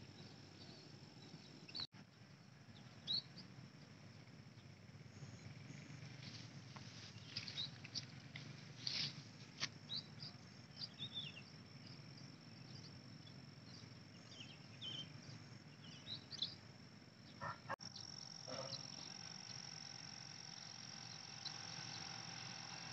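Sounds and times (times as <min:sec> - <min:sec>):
birds chirping: 0:00.0 - 0:22.9
high insect drone: 0:02.4 - 0:22.9.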